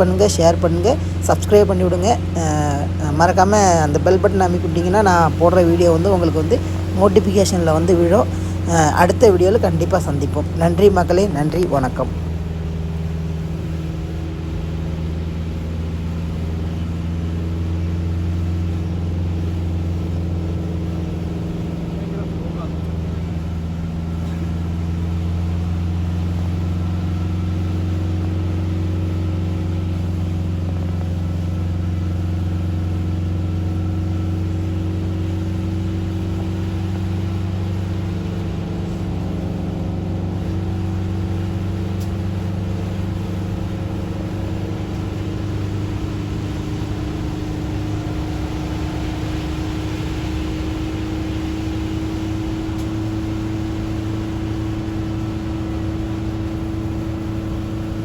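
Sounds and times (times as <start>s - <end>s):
tyres hissing on wet road: 0.0s - 58.0s
vehicle engine hum: 0.0s - 58.0s.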